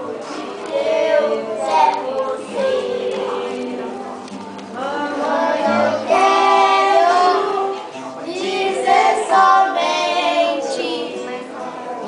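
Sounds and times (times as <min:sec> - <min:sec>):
children singing: 0:00.0 - 0:04.1, 0:04.8 - 0:12.0.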